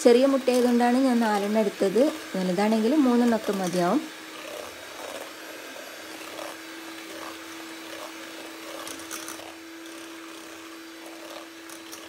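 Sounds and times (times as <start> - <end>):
electric hand mixer whisking: 0.0 - 12.0.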